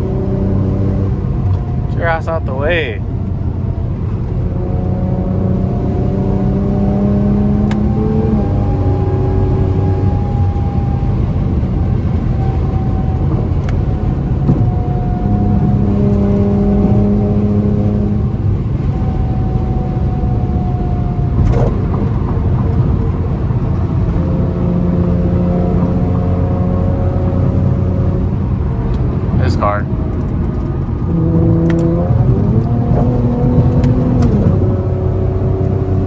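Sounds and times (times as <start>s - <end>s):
car engine cruising: 0.0s - 36.0s
low road rumble: 0.0s - 36.0s.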